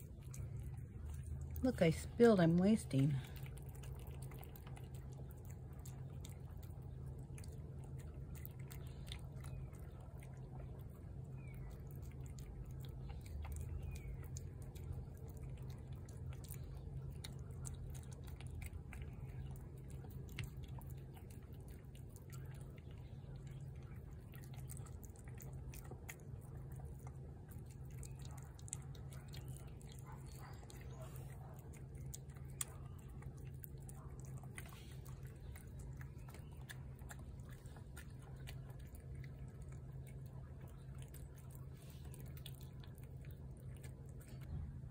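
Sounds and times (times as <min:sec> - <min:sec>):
cat chewing wet food: 0:00.0 - 0:44.9
steady low hum: 0:00.0 - 0:44.9.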